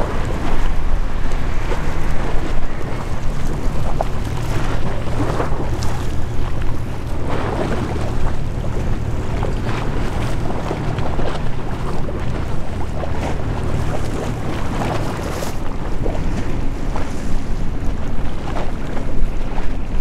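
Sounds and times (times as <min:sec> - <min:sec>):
steady low rumble: 0:00.0 - 0:20.0
wind buffeting microphone: 0:00.0 - 0:20.0.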